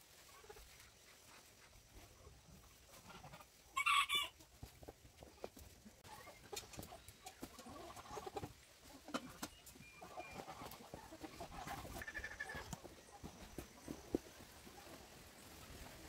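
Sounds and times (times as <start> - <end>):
hens clucking: 0.0 - 16.0
farm animals calling: 0.1 - 4.5, 5.2 - 16.0.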